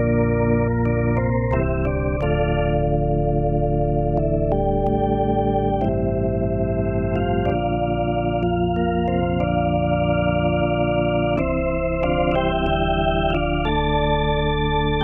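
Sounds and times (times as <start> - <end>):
organ chords on keyboard: 0.0 - 15.0.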